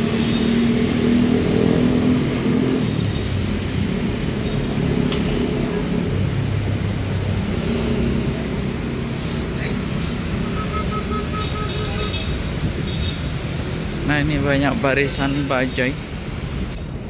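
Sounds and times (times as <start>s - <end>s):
street traffic: 0.0s - 17.0s
vehicle engines running: 0.0s - 17.0s.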